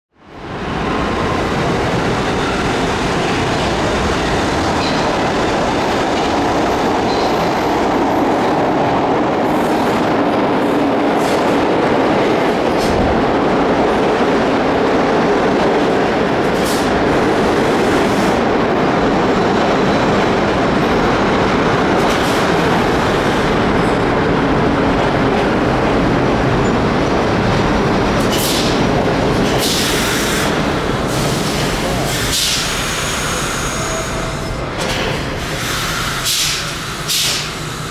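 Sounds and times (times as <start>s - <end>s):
subway train rumbling on track: 0.1s - 37.9s.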